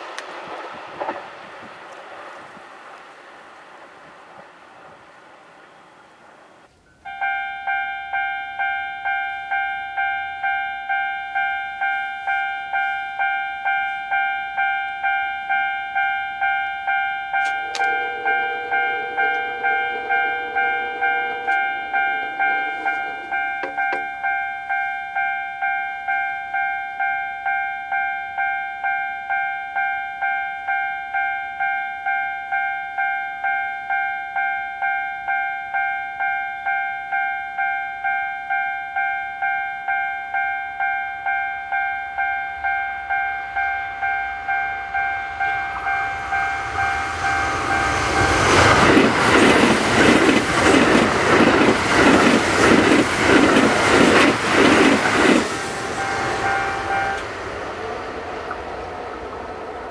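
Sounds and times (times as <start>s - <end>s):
level crossing bell clanging: 6.8s - 57.3s.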